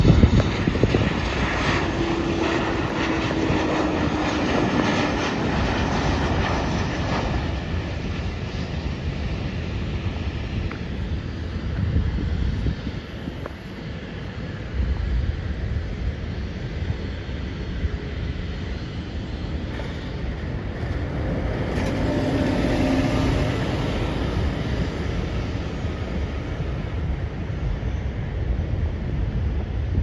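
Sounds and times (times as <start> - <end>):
jet engines of passing airliner: 0.0 - 30.0
wind on microphone: 0.0 - 30.0.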